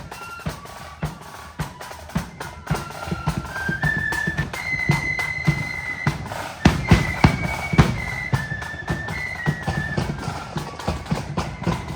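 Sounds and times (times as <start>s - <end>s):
flutes playing melody: 0.0s - 11.9s
snare and bass drums: 0.0s - 11.9s.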